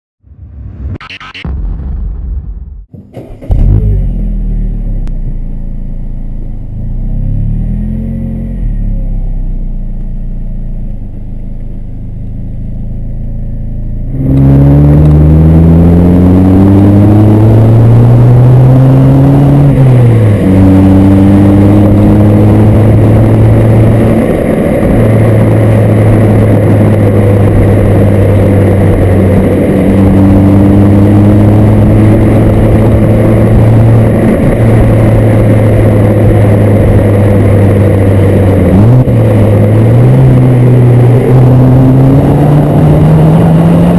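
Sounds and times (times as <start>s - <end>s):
road noise: 0.2s - 43.9s
car exhaust: 2.9s - 43.9s.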